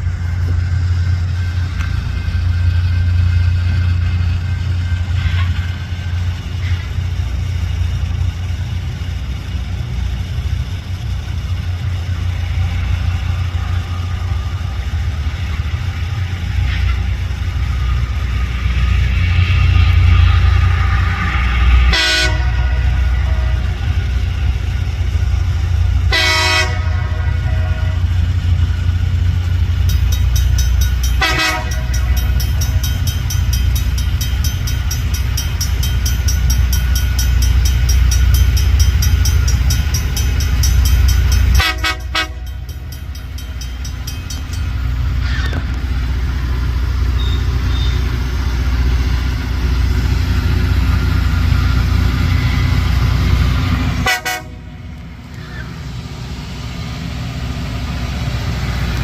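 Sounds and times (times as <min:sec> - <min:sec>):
heavy engine rumble: 0:00.0 - 0:59.0
rail grinder grinding: 0:00.0 - 0:59.0.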